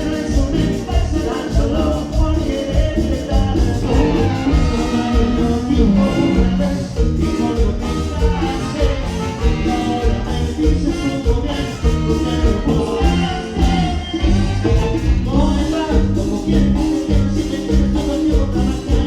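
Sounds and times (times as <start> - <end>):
live band playing latin dance music: 0.0 - 19.0.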